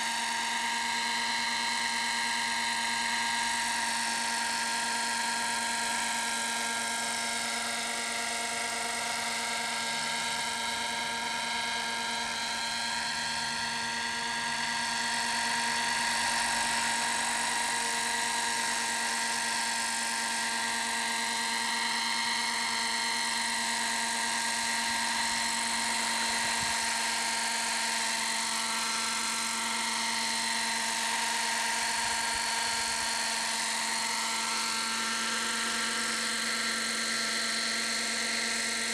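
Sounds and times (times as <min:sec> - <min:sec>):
model helicopter engine whine: 0:00.0 - 0:38.9.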